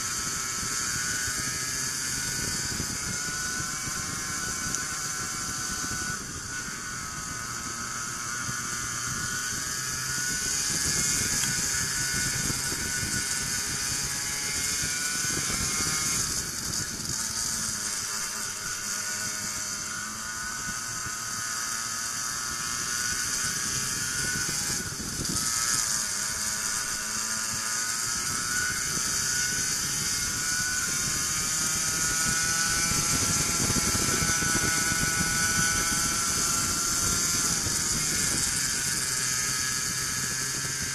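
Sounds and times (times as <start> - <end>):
racing kart engine buzzing: 0.0 - 40.9.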